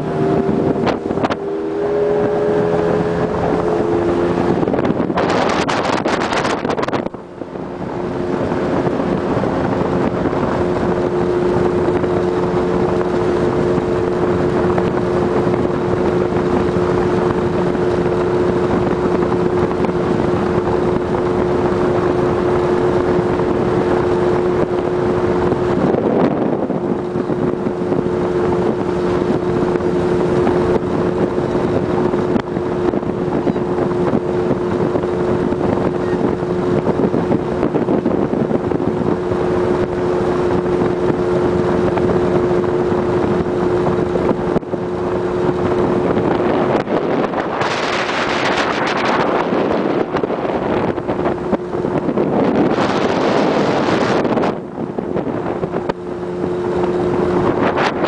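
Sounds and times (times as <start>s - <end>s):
motorboat engine running: 0.0s - 58.0s
water rushing: 0.0s - 58.0s
wind on microphone: 0.0s - 58.0s.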